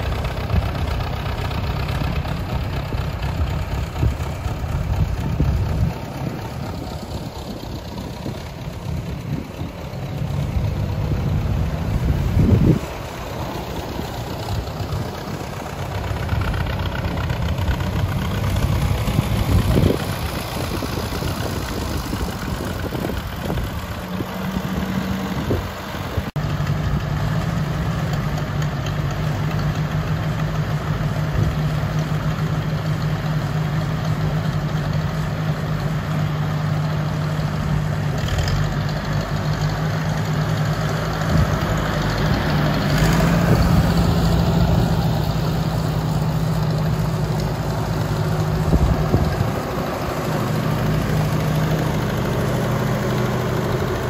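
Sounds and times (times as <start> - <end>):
tractor engines droning: 0.0 - 54.0.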